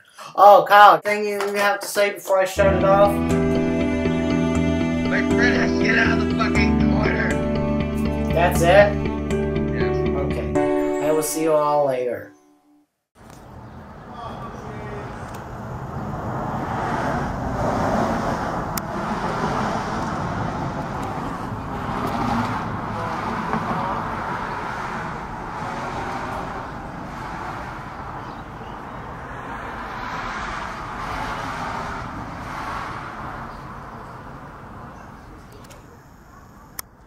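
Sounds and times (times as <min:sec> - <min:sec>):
vehicles passing: 0:02.5 - 0:12.1, 0:13.2 - 0:37.0.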